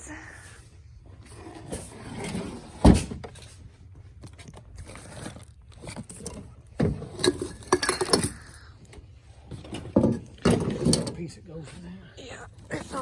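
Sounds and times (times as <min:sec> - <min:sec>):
trinkets and boxes being rummaged: 0:01.1 - 0:13.0.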